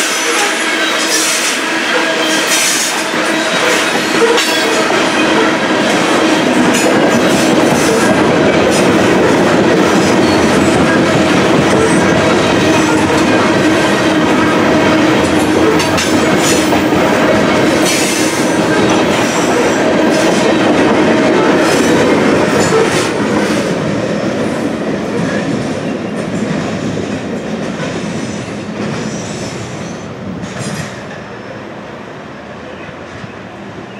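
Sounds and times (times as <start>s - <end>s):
freight train wheels clattering: 0.0s - 31.3s.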